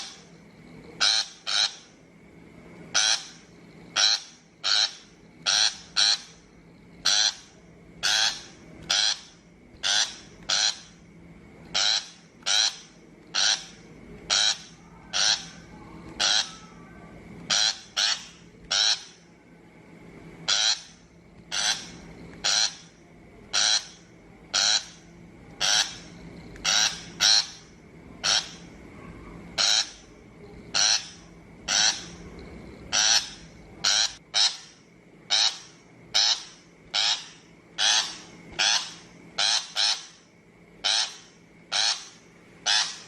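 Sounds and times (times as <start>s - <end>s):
shrike harsh scolding calls: 1.0s - 2.0s, 2.9s - 6.4s, 7.0s - 11.0s, 11.7s - 19.2s, 20.4s - 25.0s, 25.6s - 28.8s, 29.5s - 30.1s, 30.7s - 32.2s, 32.9s - 43.0s.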